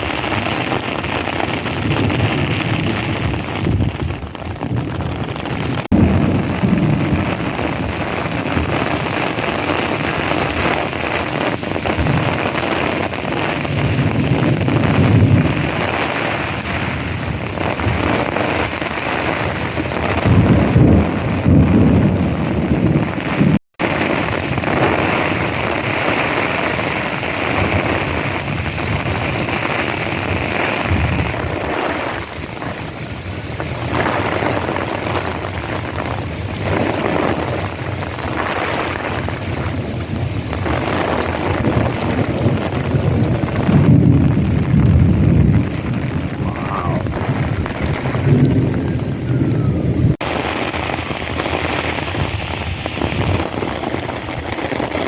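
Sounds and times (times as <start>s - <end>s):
low rumbling: 0.0s - 26.0s, 26.9s - 55.0s
heavy rain pouring: 0.0s - 55.0s.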